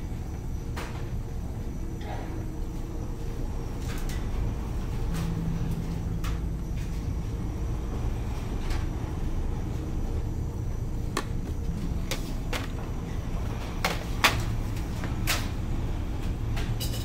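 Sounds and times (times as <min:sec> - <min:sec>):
ship engines rumbling: 0:00.0 - 0:17.0.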